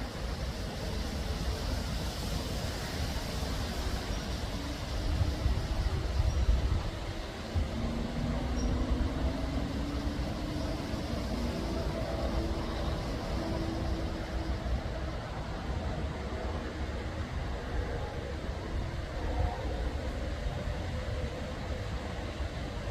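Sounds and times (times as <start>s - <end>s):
locomotive engine rumbling: 0.0s - 22.8s.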